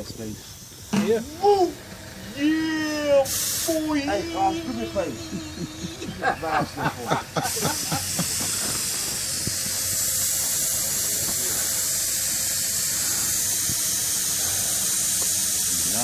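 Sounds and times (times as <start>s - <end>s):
air hissing from tire valve: 0.0s - 16.0s.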